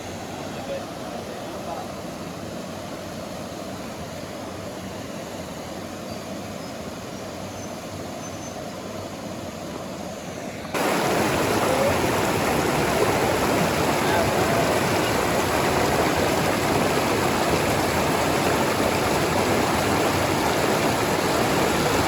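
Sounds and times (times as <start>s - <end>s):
river water rushing: 0.0s - 8.2s, 8.8s - 22.0s.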